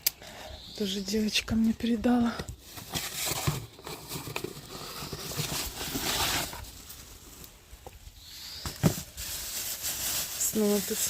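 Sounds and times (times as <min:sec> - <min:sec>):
rustling packets being handled: 0:01.5 - 0:11.0.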